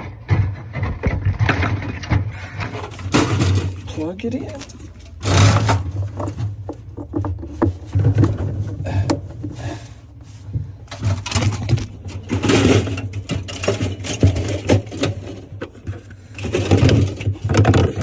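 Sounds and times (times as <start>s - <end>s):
handling knocks and scrapes: 0.0s - 18.0s
low steady hum: 0.0s - 18.0s.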